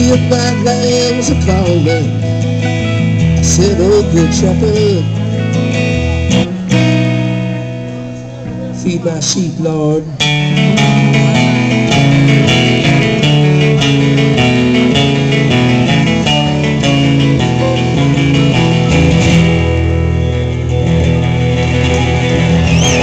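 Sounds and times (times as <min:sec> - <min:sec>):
electric guitar: 0:00.0 - 0:23.0
strummed acoustic guitar: 0:00.0 - 0:23.0.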